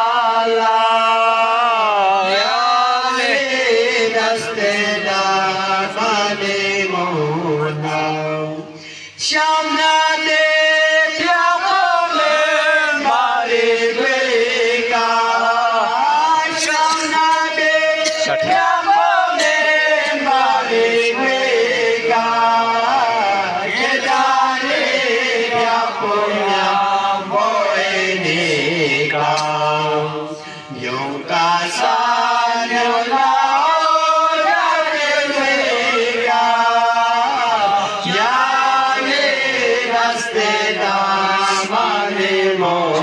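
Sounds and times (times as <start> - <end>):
male voices singing unaccompanied: 0.0 - 43.0.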